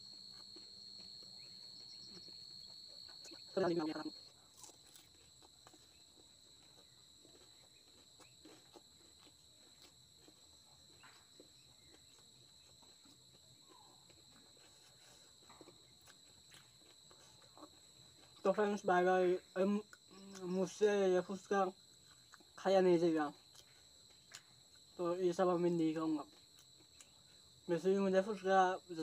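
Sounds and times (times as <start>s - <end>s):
person chewing crisp food: 0.0s - 18.6s, 19.8s - 20.6s, 21.8s - 22.6s, 23.3s - 25.0s, 26.2s - 27.7s
steady high-pitched whine: 0.0s - 29.0s.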